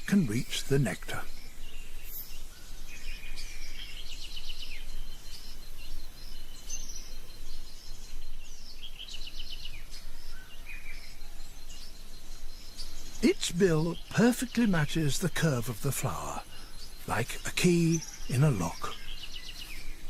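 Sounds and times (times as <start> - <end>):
birds chattering calls: 0.0 - 20.0.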